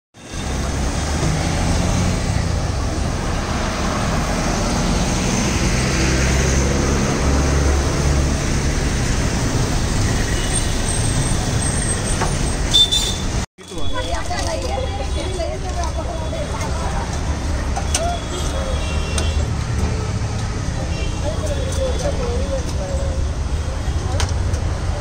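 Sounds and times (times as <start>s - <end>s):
road traffic rumble and hiss: 0.2s - 25.0s.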